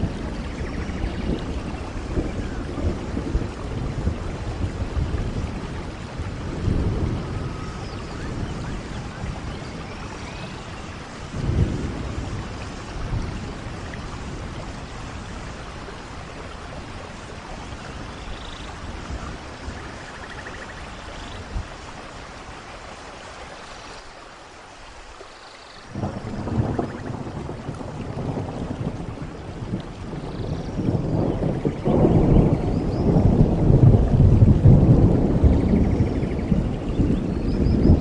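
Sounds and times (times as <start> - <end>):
low rumbling water surges: 0.0 - 38.0.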